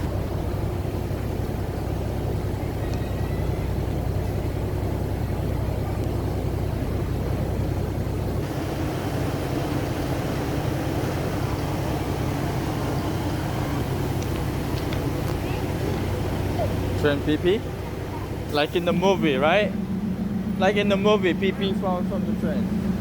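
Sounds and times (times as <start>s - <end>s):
diesel train engine hum: 0.0s - 23.0s
train rattling: 0.0s - 23.0s.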